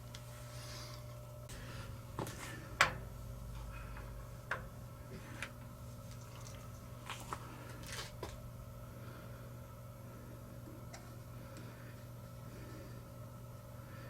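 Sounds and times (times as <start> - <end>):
faint machine-shop hum: 0.0 - 14.0.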